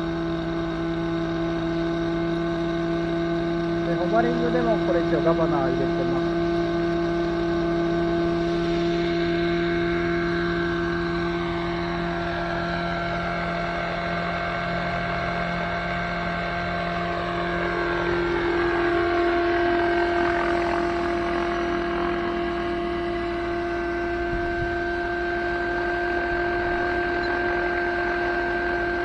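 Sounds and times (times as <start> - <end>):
model helicopter engine hovering: 0.0 - 29.0.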